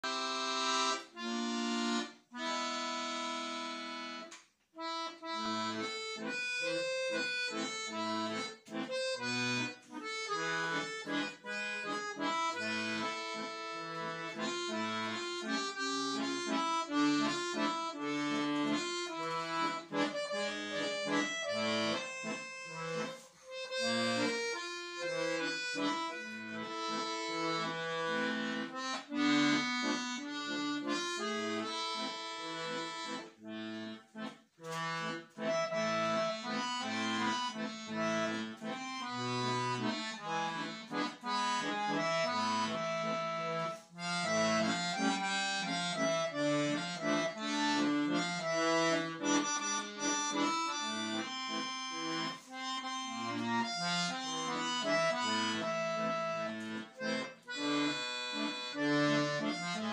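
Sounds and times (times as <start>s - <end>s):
button accordion playing: 0.0s - 59.9s.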